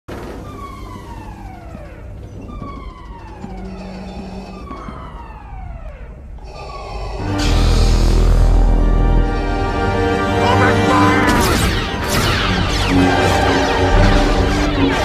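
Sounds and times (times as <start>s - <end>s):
alarm siren falling wail: 0.1s - 15.0s.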